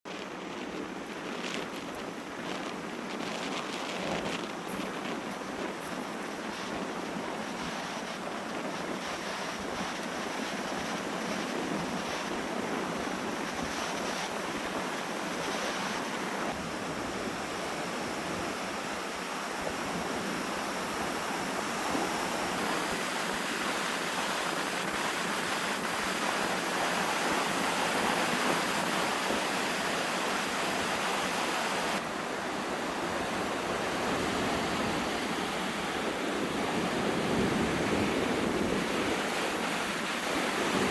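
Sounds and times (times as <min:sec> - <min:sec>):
surf washing onto beach: 0:00.1 - 0:40.9
wind blowing across microphone: 0:00.1 - 0:40.9.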